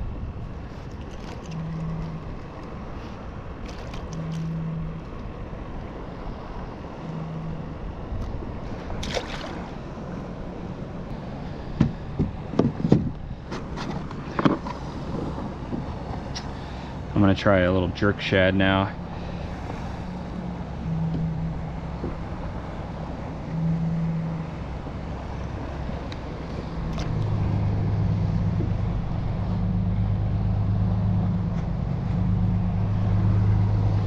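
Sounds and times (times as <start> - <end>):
short low hums: 0.0 - 34.0
water: 0.0 - 34.0
wind: 0.0 - 34.0.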